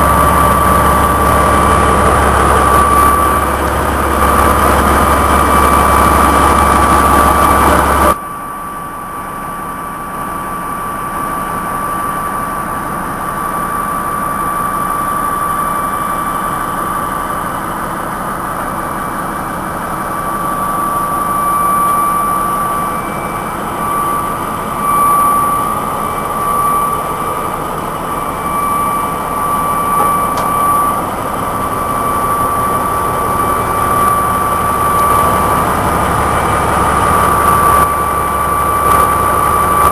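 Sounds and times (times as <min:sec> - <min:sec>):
constant high tone: 0:00.0 - 0:39.9
heavy machine noise: 0:00.0 - 0:39.9.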